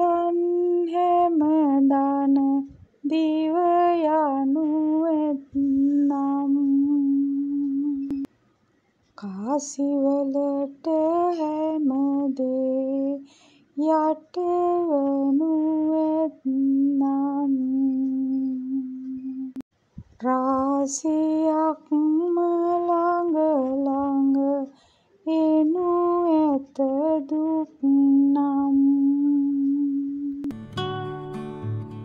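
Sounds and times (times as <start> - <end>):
woman singing slow song: 0.0 - 8.3, 9.2 - 30.5.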